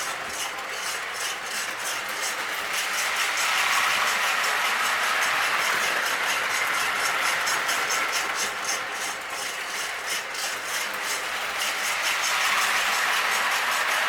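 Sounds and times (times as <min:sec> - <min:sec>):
rhythmic chugging hiss: 0:00.0 - 0:14.0
toy train rolling and motor: 0:00.0 - 0:14.0.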